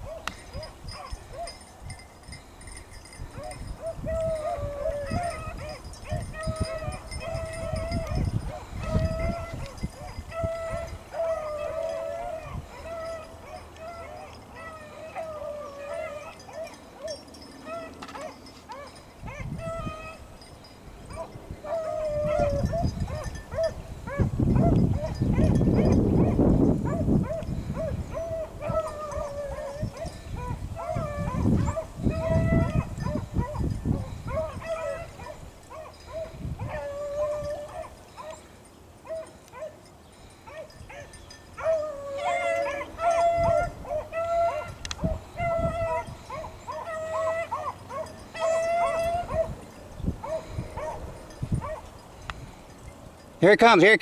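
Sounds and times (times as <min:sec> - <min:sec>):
hounds baying: 0:00.0 - 0:53.0.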